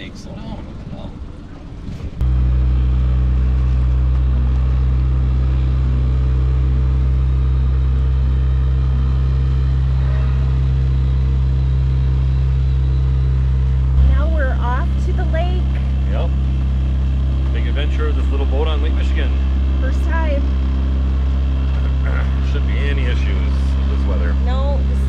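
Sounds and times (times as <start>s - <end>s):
boat motor droning: 0.0s - 25.0s.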